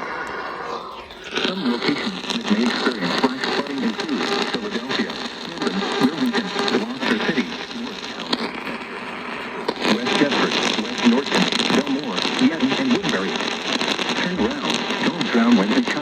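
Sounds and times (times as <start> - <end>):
automated voice speaking: 0.0 - 16.0
radio hiss: 0.0 - 16.0.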